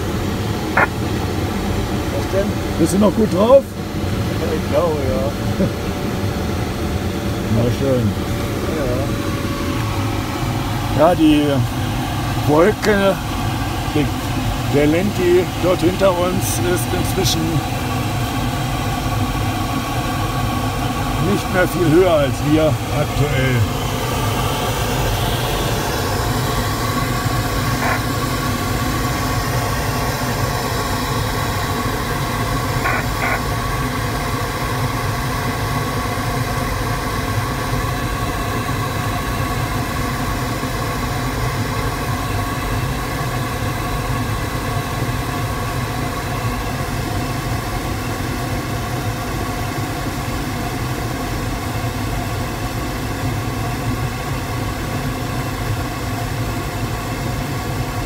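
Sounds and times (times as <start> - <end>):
rushing airflow in glider cockpit: 0.0 - 58.0.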